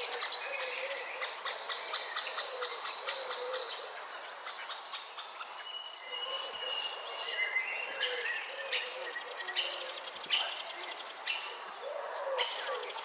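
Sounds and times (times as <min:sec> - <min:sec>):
high-pitched insect drone: 0:00.0 - 0:11.2.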